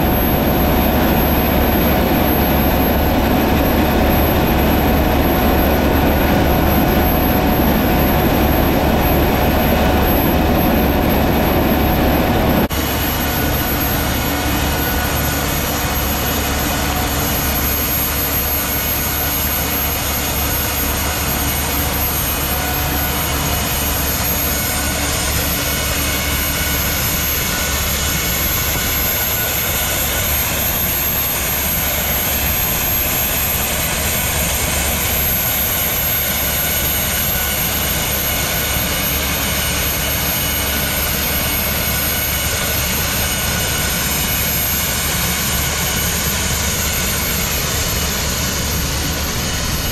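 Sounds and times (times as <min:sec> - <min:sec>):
gas turbine engine whining: 0:00.0 - 0:49.9.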